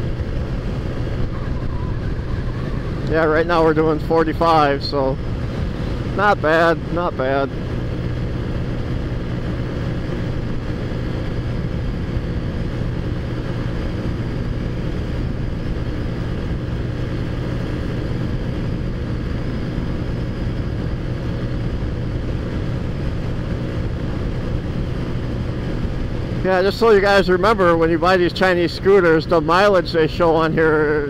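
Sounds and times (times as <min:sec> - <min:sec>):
road and wind noise: 0:00.0 - 0:31.0
scooter engine cruising: 0:00.0 - 0:31.0.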